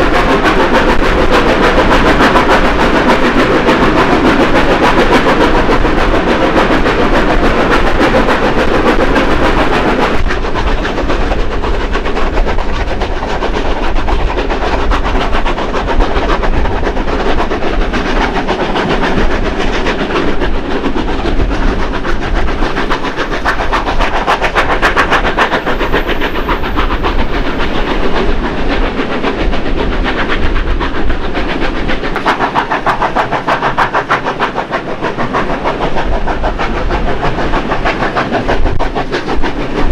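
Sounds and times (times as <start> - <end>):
steam locomotive exhaust chuffing: 0.0 - 39.9.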